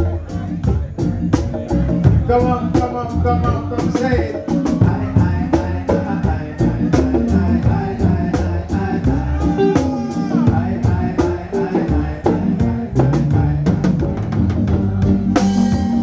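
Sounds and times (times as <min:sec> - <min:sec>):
bass line: 0:00.0 - 0:16.0
drum kit beat: 0:00.0 - 0:16.0
reggae band playing: 0:00.0 - 0:16.0.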